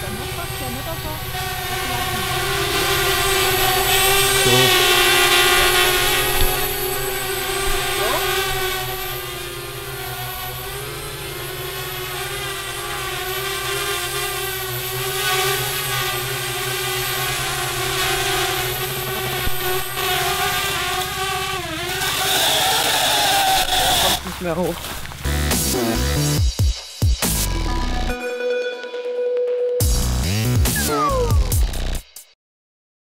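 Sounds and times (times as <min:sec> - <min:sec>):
drone propellers whining: 0:00.0 - 0:26.4, 0:30.4 - 0:32.0.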